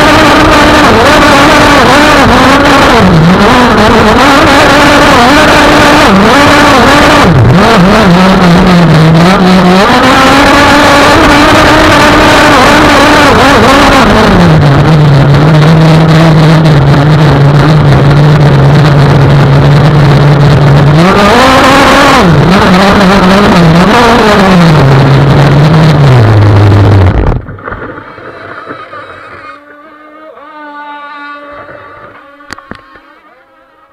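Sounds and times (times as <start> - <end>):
two-stroke boat engine revving: 0.0 - 33.9.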